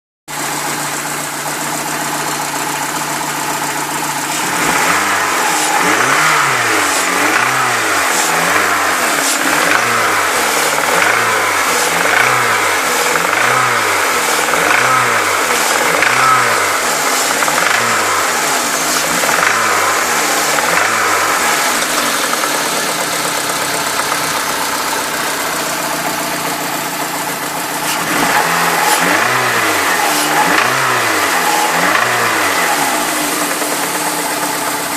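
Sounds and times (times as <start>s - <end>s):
car engine revving: 0.3s - 34.9s.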